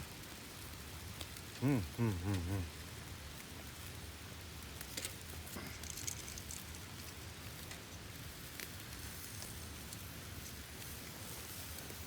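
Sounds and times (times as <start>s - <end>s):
fire and grill sizzling and crackling: 0.0s - 12.0s.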